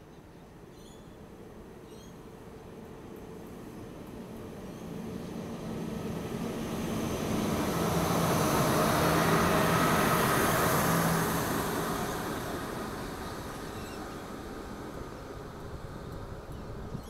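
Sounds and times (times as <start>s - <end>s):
train passing: 1.2s - 17.0s.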